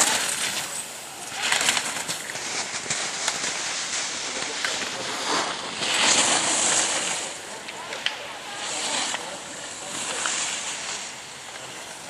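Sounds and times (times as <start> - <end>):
sharp ski clicks: 0.0 - 12.0
skis scraping on hard snow: 0.0 - 12.0.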